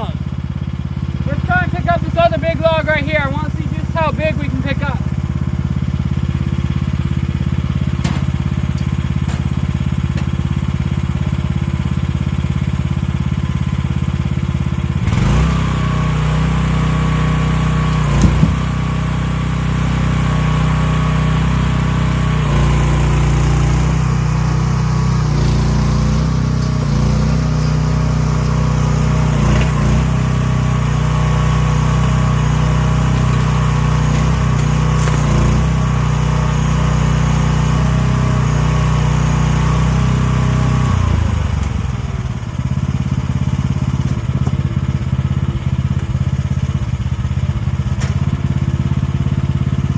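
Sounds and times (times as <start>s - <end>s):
hydraulic whine: 0.0s - 14.3s, 15.0s - 46.0s
excavator engine running: 0.0s - 49.9s.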